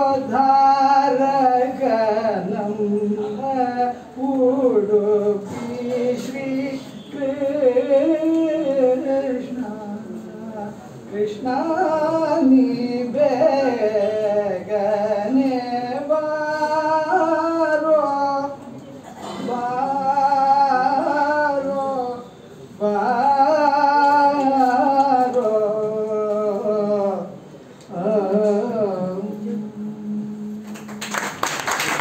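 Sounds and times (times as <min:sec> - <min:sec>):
person singing unaccompanied: 0:00.0 - 0:30.9.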